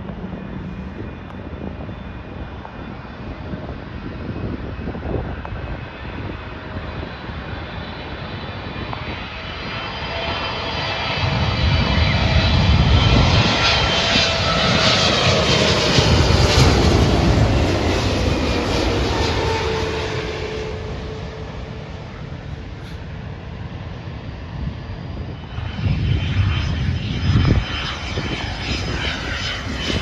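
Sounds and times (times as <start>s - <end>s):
jet airliner passing: 0.0s - 30.0s
jet engine whine falling in pitch: 0.0s - 30.0s.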